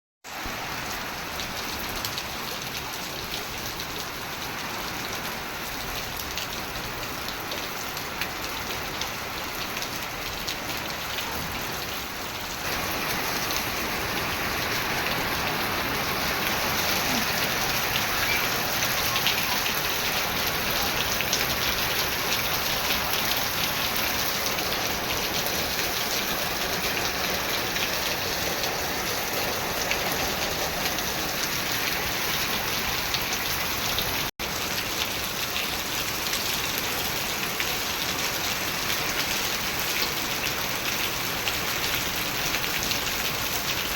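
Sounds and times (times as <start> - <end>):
torrential rain pouring: 0.3 - 43.9.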